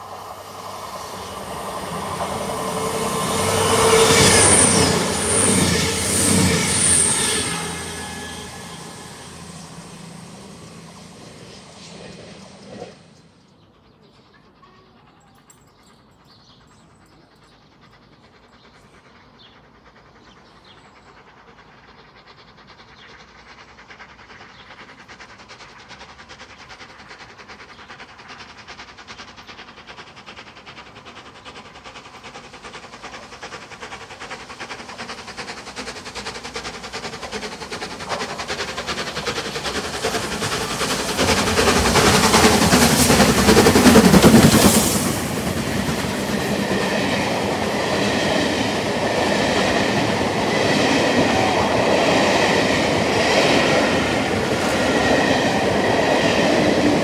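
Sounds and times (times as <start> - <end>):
steam locomotive working steam: 0.0 - 57.0.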